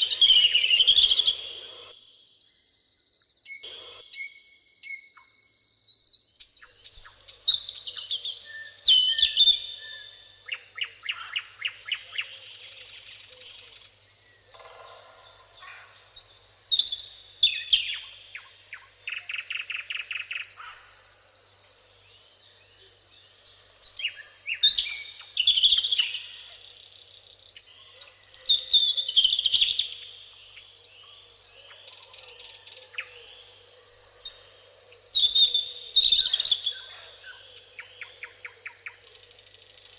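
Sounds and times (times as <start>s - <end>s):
songbirds singing: 0.0s - 39.9s
high-pitched insect trill: 6.6s - 39.9s.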